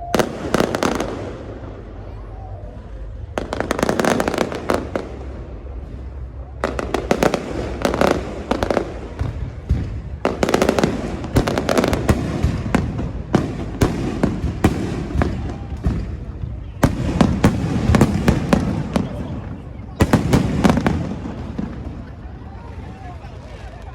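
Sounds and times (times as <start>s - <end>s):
fireworks bangs and crackling: 0.0s - 23.9s.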